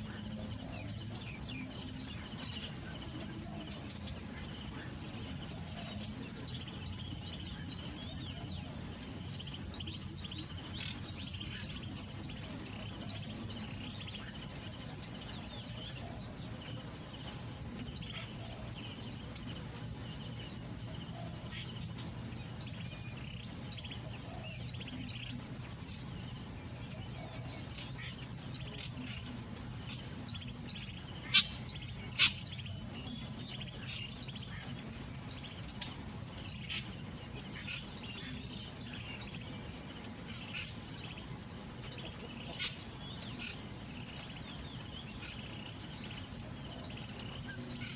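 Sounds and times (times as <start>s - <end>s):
low background hum: 0.0s - 47.9s
wild birds calling: 0.0s - 47.9s.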